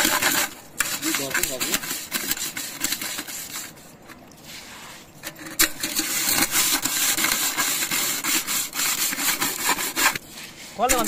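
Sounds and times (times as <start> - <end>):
metal pot being scrubbed: 0.0 - 11.0.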